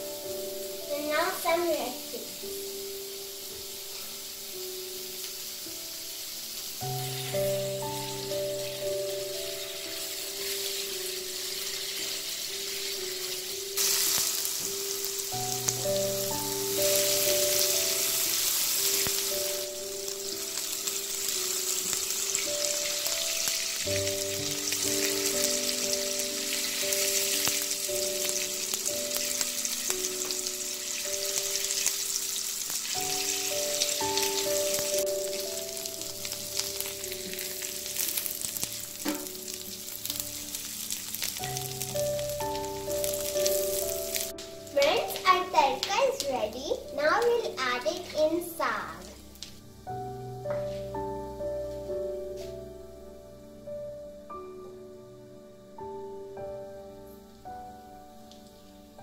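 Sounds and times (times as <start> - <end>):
background music with simple melody: 0.0 - 59.0
onions sizzling in a pan: 0.0 - 59.0.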